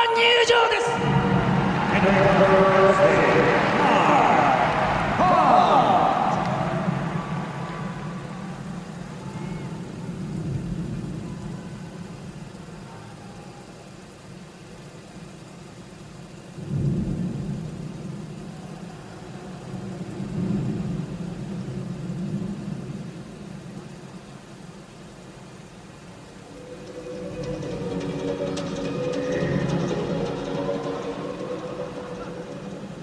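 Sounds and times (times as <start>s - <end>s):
low rumbling arena noise: 0.0s - 33.0s.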